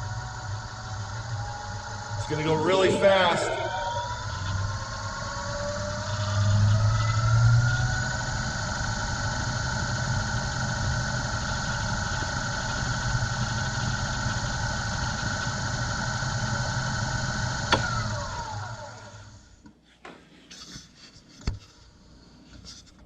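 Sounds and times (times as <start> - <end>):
lathe motor hum and whine: 0.0 - 19.6.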